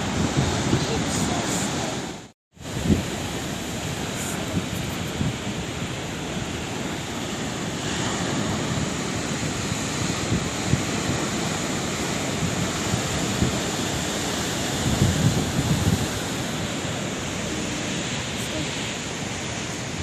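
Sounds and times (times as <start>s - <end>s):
sea waves washing: 0.0s - 20.0s.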